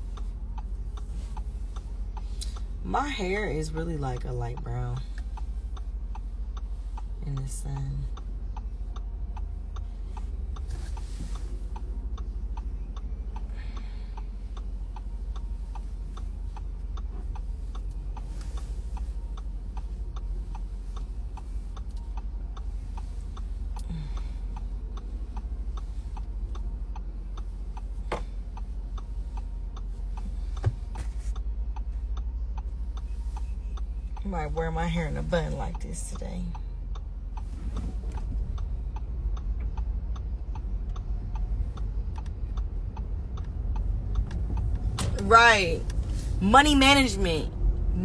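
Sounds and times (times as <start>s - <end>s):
steady ticking: 0.0s - 47.6s
low steady hum: 0.0s - 48.0s.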